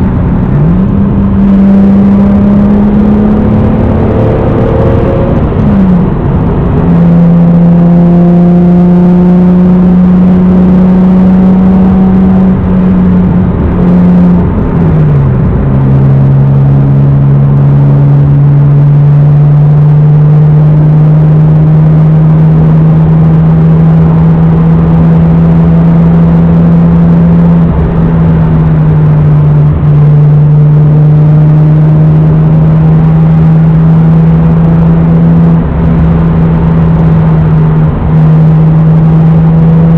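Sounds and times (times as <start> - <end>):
car engine droning from inside: 0.0 - 39.9.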